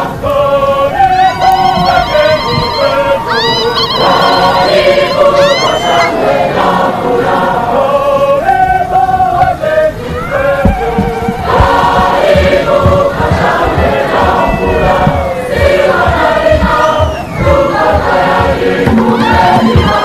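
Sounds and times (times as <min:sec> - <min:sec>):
choir singing while marching: 0:00.0 - 0:20.0.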